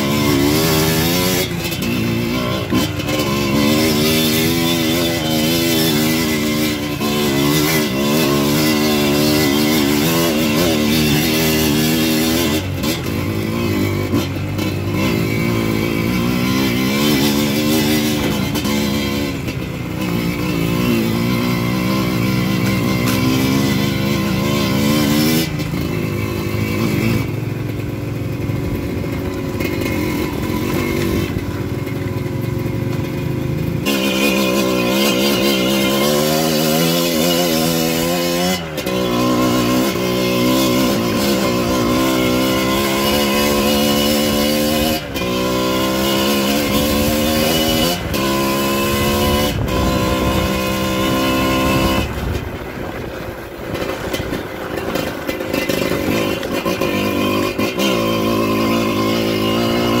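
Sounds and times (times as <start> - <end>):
dirt bike engine revving through gears: 0.0 - 60.0.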